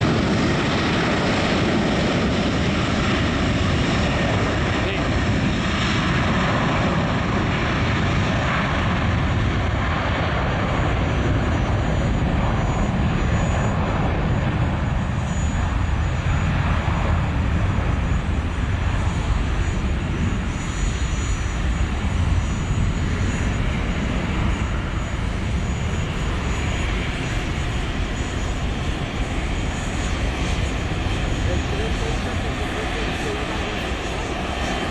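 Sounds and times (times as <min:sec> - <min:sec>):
jet engines taxiing: 0:00.0 - 0:34.9.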